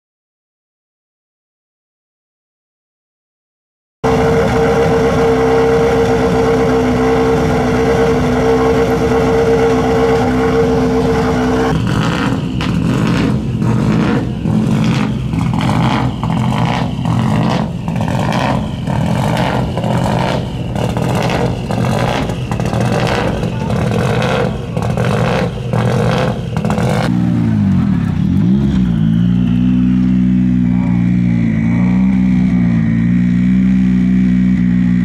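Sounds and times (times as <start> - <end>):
rally car engine throttle blips: 4.0 - 35.0
steady engine drone: 4.0 - 35.0.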